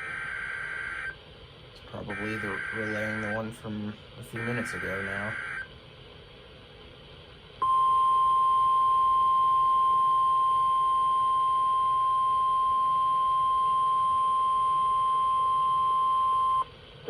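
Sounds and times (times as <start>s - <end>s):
steady pure alarm tone: 0.0s - 1.2s, 2.0s - 5.7s, 7.6s - 16.7s.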